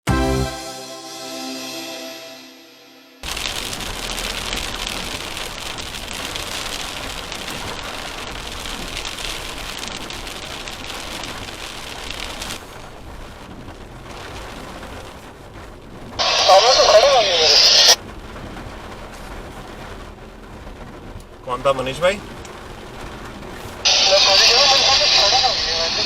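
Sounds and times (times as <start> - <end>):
heavy rain on a vehicle: 3.2 - 26.0.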